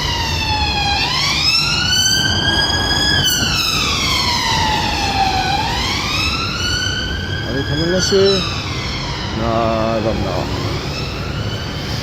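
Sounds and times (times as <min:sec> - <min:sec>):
police siren wailing: 0:00.0 - 0:12.0
street traffic rumble: 0:00.0 - 0:12.0.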